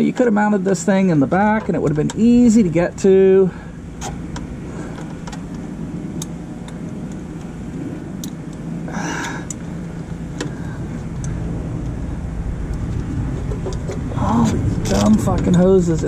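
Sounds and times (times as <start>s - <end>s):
low rumble and hum: 0.0s - 16.0s.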